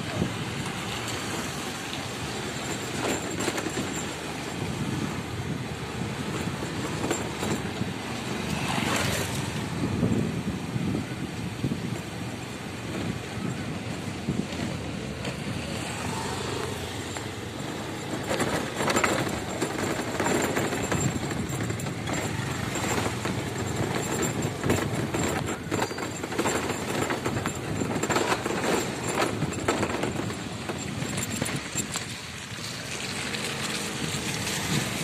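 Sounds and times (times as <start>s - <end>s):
vehicle bumps and rattles: 0.0s - 35.0s
vehicle engine and road noise: 0.0s - 35.0s.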